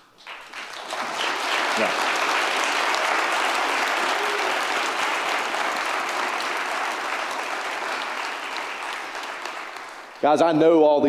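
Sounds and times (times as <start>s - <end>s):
congregation applauding: 0.0s - 11.0s.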